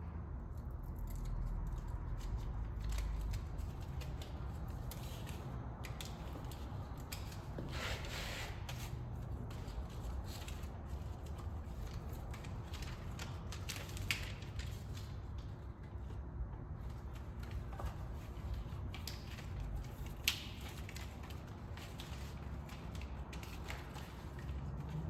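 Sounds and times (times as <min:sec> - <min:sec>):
tape and plastic crinkling: 0:00.6 - 0:15.6, 0:16.8 - 0:25.0.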